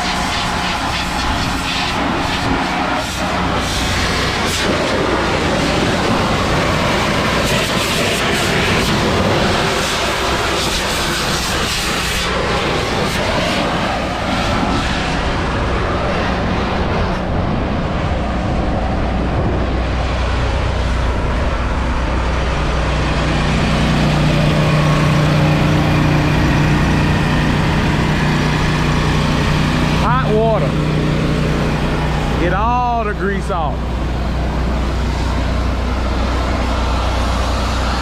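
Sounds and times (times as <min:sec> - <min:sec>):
steady low drone: 0:00.0 - 0:38.0
truck engine rumbling: 0:00.0 - 0:38.0.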